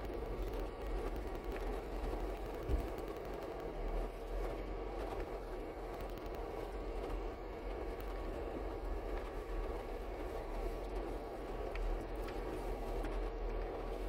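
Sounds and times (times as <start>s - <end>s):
engine drone from inside cab: 0.0s - 14.0s
faint clicks and rattles: 0.0s - 14.0s.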